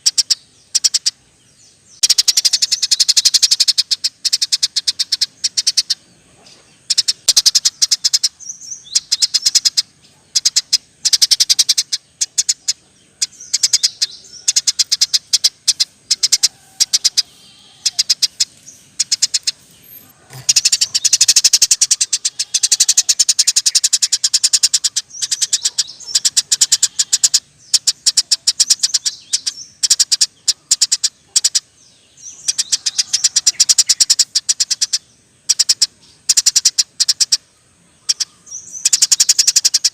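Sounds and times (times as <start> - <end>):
sparrow chattering trills: 0.0 - 39.9.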